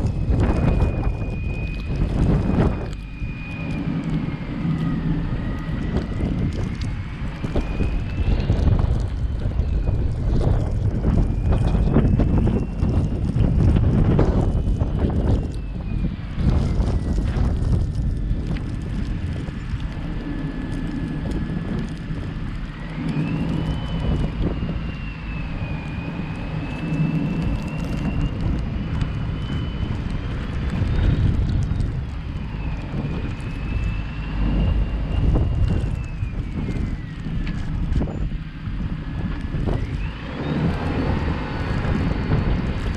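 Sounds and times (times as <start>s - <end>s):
car road and engine rumble: 0.0s - 42.9s.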